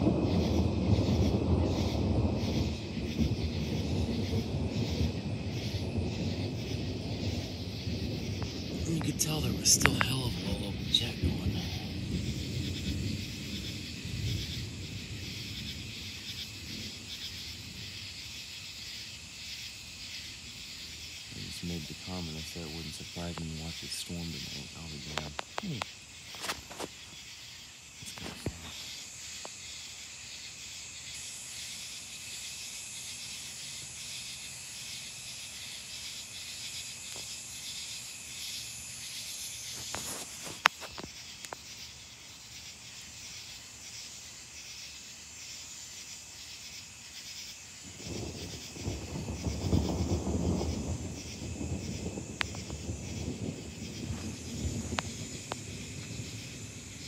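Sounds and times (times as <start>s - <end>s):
distant thunder rumble: 0.0s - 41.4s, 47.5s - 57.0s
night insects chirring: 0.0s - 57.0s.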